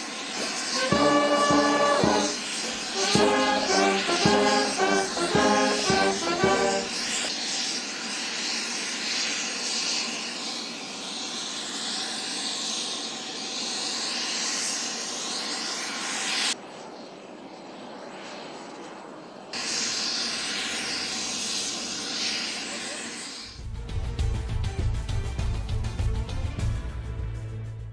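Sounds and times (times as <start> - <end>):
aircraft engines running: 0.0 - 27.9.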